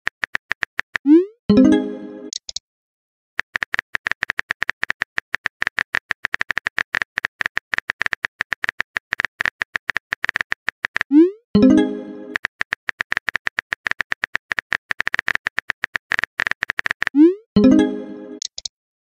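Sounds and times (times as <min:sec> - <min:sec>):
keyboard typing clicks: 0:00.1 - 0:02.6, 0:03.4 - 0:18.7.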